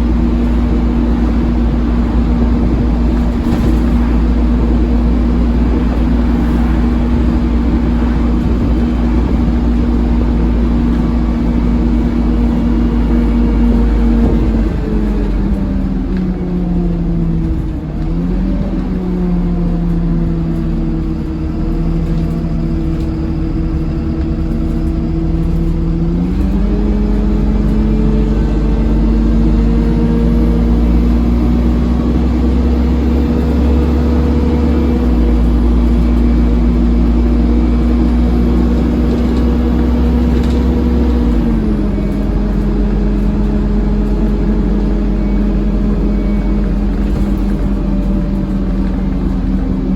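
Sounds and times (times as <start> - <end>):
bus transmission droning whine: 0.0 - 49.9.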